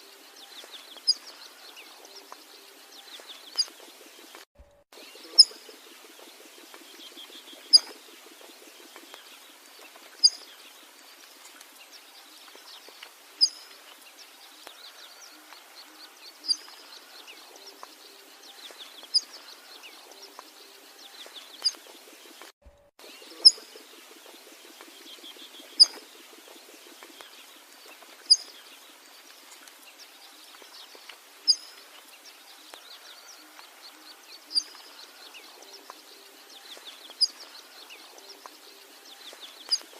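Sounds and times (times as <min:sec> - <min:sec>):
soft bird chirping: 0:00.0 - 0:39.9.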